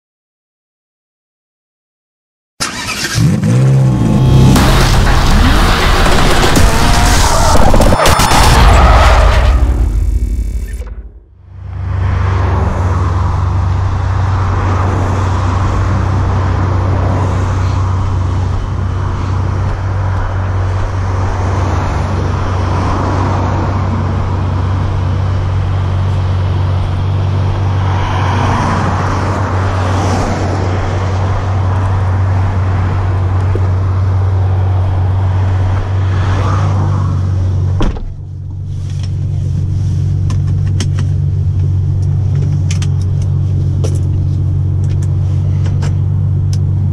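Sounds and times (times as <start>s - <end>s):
rushing background noise: 2.6s - 46.9s.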